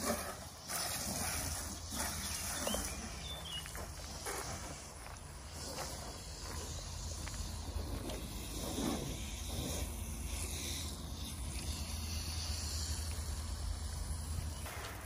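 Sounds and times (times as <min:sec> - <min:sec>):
hose spraying water on car: 0:00.0 - 0:14.6.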